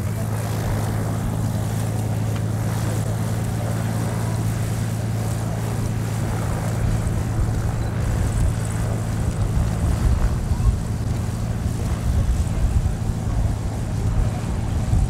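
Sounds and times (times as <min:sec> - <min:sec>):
propeller plane engine idling: 0:00.0 - 0:15.0
wind rumble on microphone: 0:00.0 - 0:15.0.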